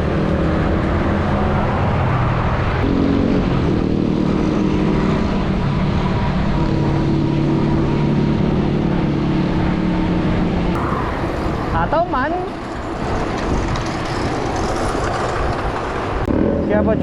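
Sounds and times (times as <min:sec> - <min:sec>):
road noise: 0:00.0 - 0:17.0
vehicle engines running: 0:00.0 - 0:17.0.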